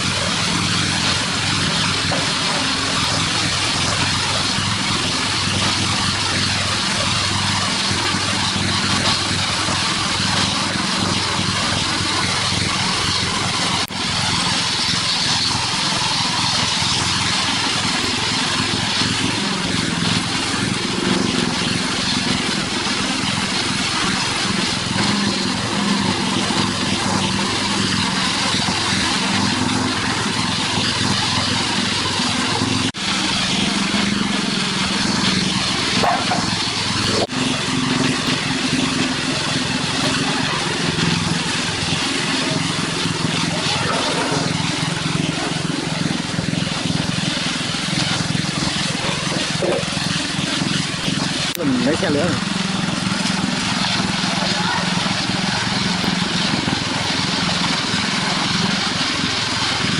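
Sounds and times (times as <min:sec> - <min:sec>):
construction machinery engine: 0:00.0 - 0:59.9.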